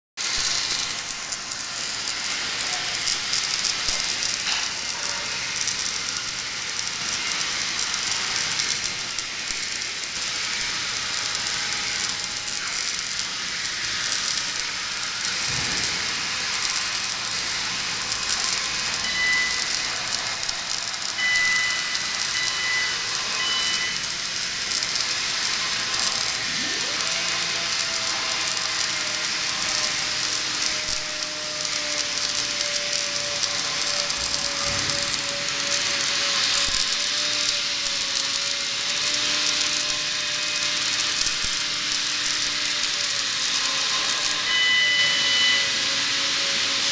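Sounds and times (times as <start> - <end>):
welding arc hissing and crackling: 0.2 - 46.9.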